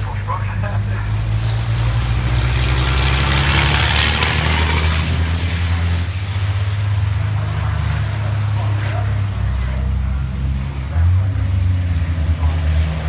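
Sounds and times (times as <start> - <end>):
truck diesel engine passing: 0.0 - 13.0.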